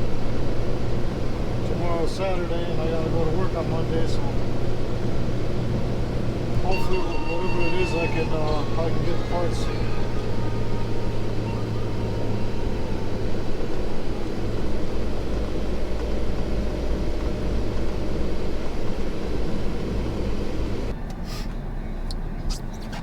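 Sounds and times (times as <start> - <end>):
road and wind noise: 0.0 - 23.0
truck diesel engine drone: 0.0 - 23.0.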